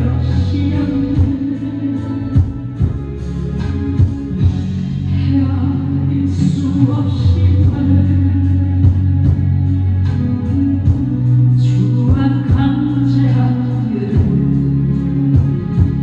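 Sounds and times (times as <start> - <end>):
woman singing into microphone: 0.0 - 3.1, 4.0 - 16.0
backing track with steady beat: 0.0 - 16.0.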